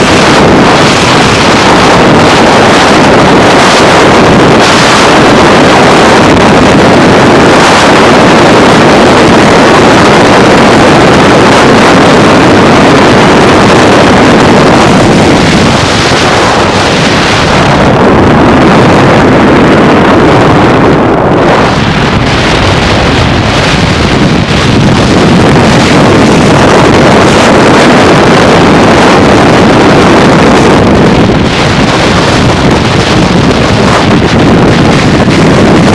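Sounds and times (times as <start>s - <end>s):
car tyre and road noise: 0.0s - 35.9s
wind buffeting microphone: 0.0s - 35.9s.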